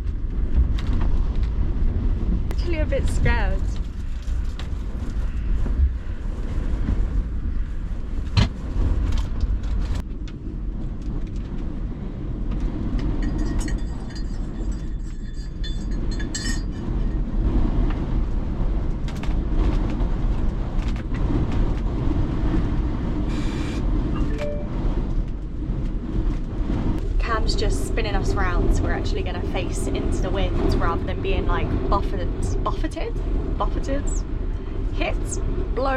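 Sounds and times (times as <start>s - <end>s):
storm-force wind: 0.0s - 35.9s
van engine low rumble: 0.0s - 35.9s.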